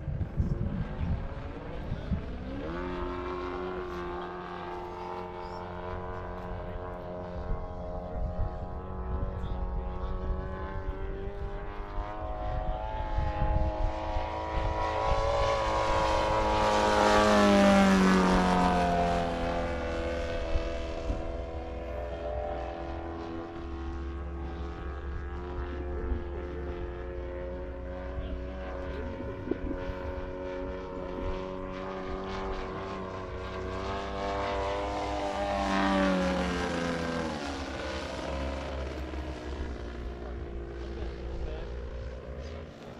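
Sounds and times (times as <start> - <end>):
model airplane motor and propeller: 0.0 - 42.9.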